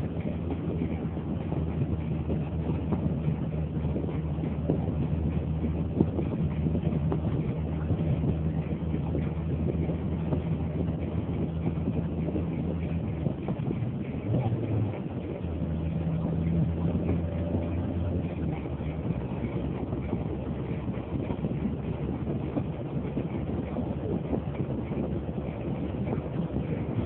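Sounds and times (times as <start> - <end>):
car engine drone: 0.0 - 27.0
road rumble: 0.0 - 27.0.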